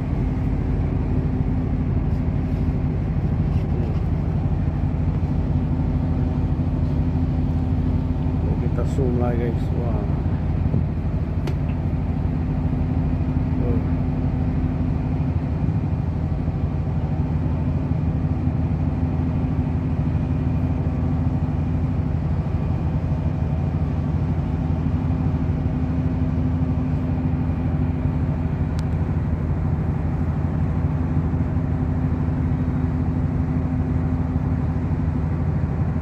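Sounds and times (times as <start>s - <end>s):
motorboat engine droning: 0.0s - 36.0s.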